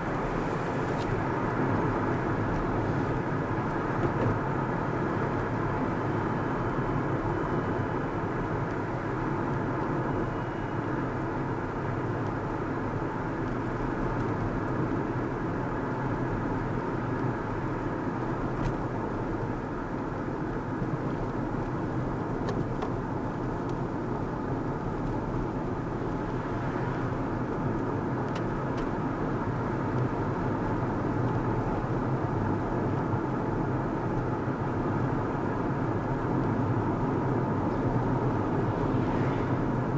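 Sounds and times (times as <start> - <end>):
car engine hum: 0.0 - 39.9
tyre road noise: 0.0 - 39.9.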